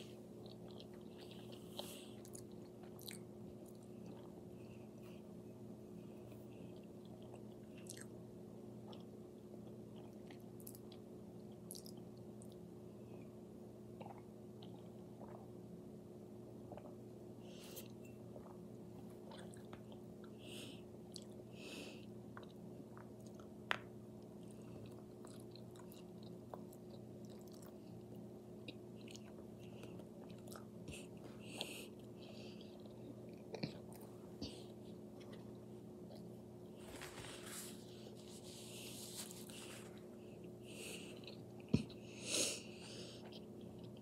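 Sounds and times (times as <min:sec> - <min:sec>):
person chewing food: 0:00.0 - 0:05.4, 0:06.2 - 0:12.7, 0:13.9 - 0:15.6, 0:16.6 - 0:44.0
steady low hum: 0:00.0 - 0:44.0.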